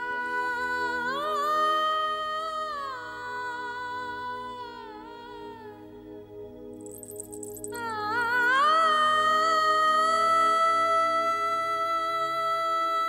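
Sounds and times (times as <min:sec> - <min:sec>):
slow music of sustained chords: 0:00.0 - 0:13.0.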